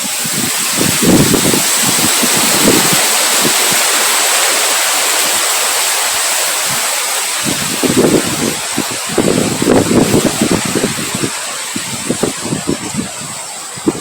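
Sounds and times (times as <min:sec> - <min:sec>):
strong wind hissing: 0:00.0 - 0:14.0
wind buffeting microphone: 0:00.0 - 0:14.0.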